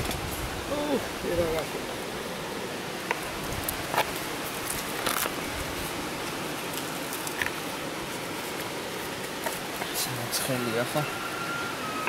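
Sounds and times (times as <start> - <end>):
steady rushing background noise: 0.0 - 12.0.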